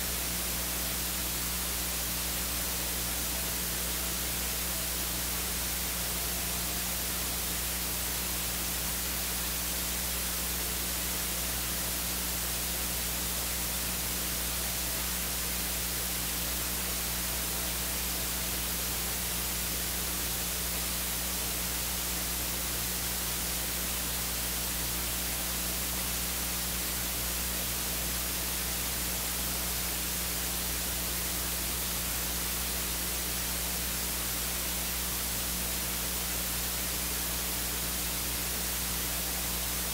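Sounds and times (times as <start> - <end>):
electronic hiss: 0.0 - 39.9.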